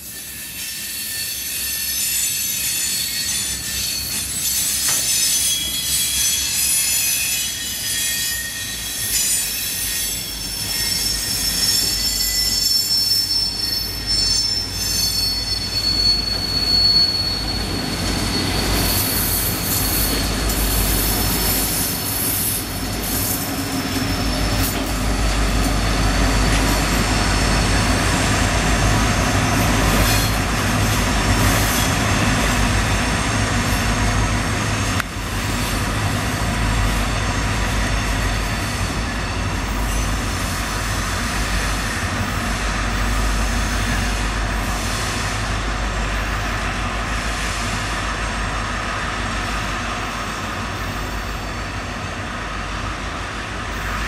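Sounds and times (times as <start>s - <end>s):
diesel locomotive engine drone: 0.0s - 54.0s
steel wheels squealing: 0.0s - 54.0s.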